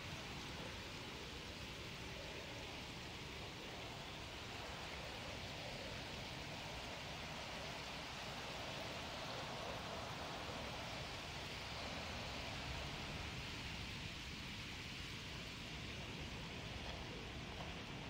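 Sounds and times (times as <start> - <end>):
stream running over rocks: 0.0 - 18.0.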